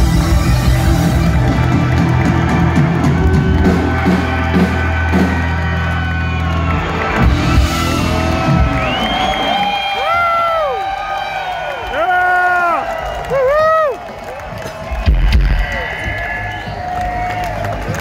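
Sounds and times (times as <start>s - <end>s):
crowd cheering and whooping: 0.0s - 18.0s.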